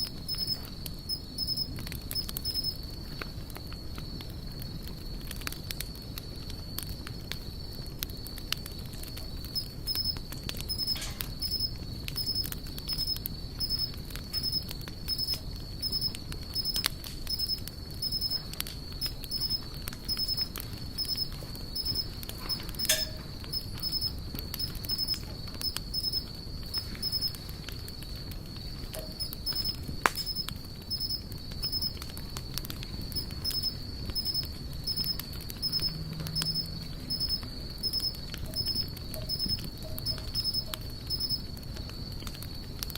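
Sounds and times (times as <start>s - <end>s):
campfire wood crackling: 0.0s - 42.9s
fire pops: 0.0s - 42.9s.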